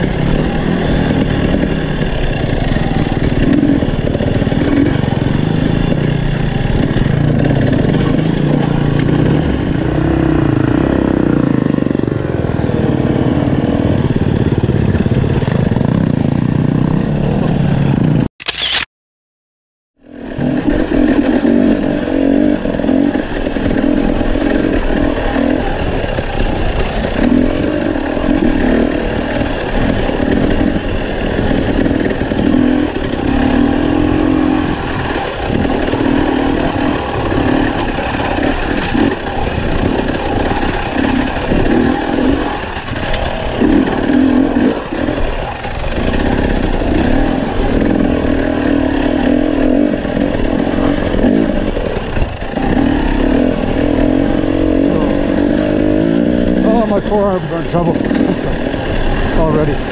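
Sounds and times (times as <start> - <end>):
dirt bike engine revving: 0.0 - 18.9, 20.0 - 59.9.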